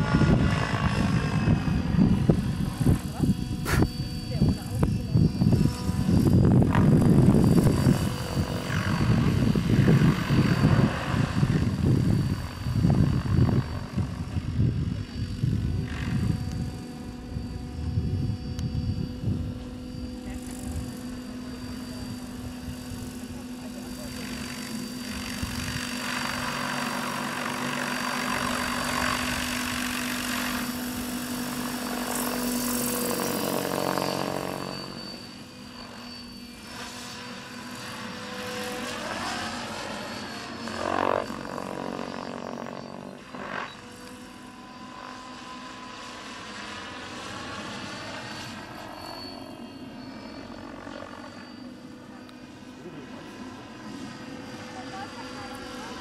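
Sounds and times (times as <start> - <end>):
model helicopter rotor whining: 0.0 - 56.0.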